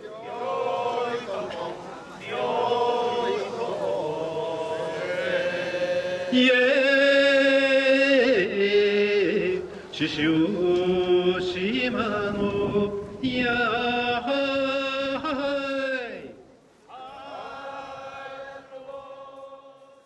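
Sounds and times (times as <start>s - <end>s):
men chanting ritual song: 0.0s - 20.0s.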